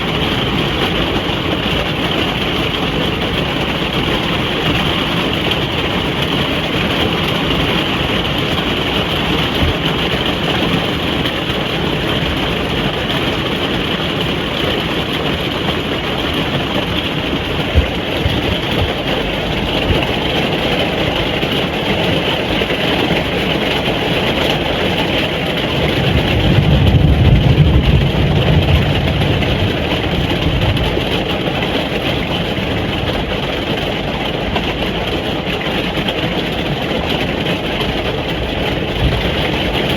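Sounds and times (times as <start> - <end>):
distant thunder rumble: 0.0 - 21.9, 25.5 - 34.1, 37.6 - 39.9
rain drumming on a caravan roof: 0.0 - 39.9.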